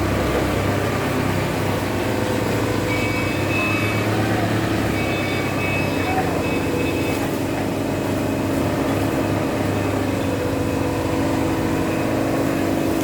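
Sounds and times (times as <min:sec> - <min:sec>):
baling press machine hum: 0:00.0 - 0:13.0.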